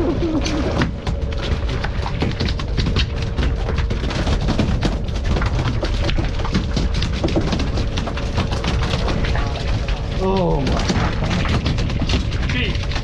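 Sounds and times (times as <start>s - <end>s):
small clicks and splashes: 0.0s - 13.0s.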